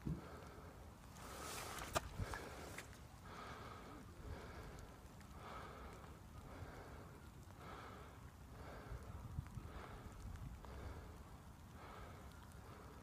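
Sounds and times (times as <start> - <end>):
faint breathing: 0.0 - 13.0.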